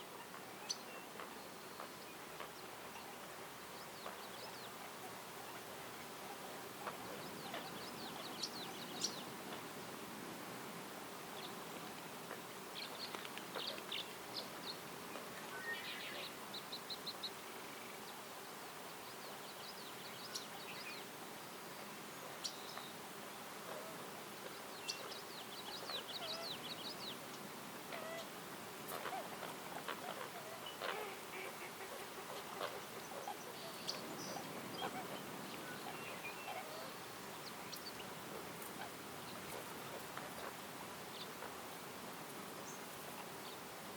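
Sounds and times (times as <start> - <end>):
small songbirds chirping: 0.0 - 43.9
steady background hiss: 0.0 - 43.9.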